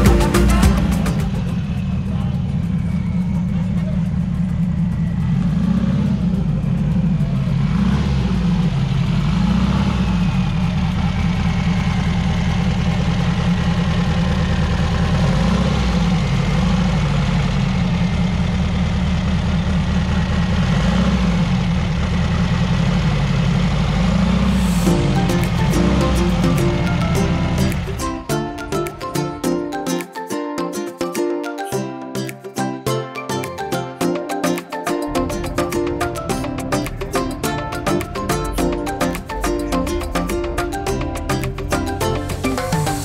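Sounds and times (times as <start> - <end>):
car engine idling: 0.0 - 29.5, 35.1 - 43.0.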